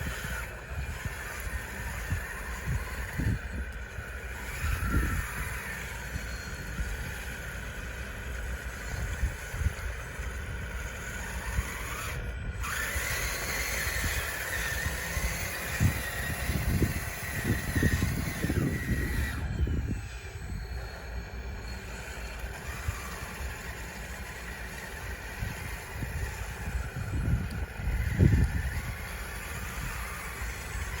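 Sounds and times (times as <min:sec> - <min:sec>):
small electric motors whining: 0:00.0 - 0:31.0
wind gusting on microphone: 0:00.0 - 0:31.0.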